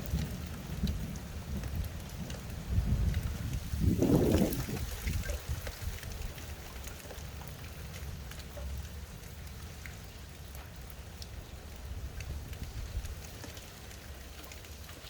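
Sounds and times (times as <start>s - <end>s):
rain falling: 0.0s - 15.0s
raindrop ticks: 0.0s - 15.0s.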